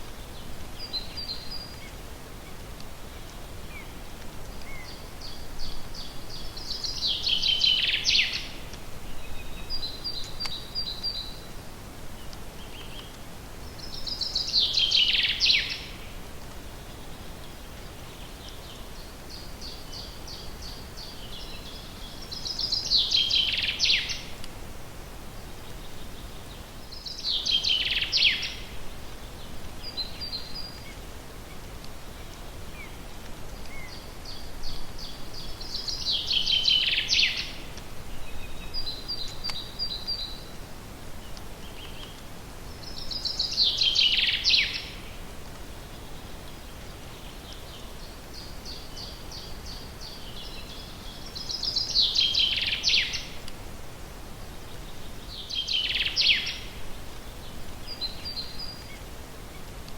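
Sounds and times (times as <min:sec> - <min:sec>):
songbirds singing: 0:00.0 - 0:59.9
steady background hiss: 0:00.0 - 0:59.9.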